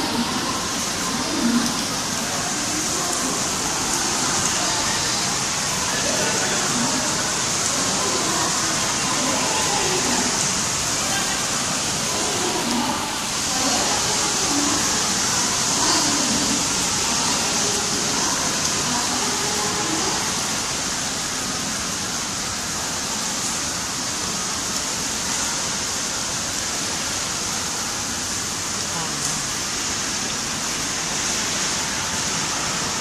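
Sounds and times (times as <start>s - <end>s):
faint voices: 0.0s - 22.9s, 28.6s - 33.0s
heavy rain hissing: 0.0s - 33.0s
running water: 0.0s - 33.0s.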